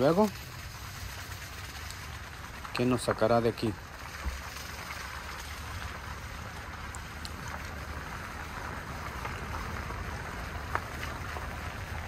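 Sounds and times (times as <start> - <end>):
road and engine rumble: 0.0 - 12.0
tyres hissing on wet road: 0.0 - 12.0.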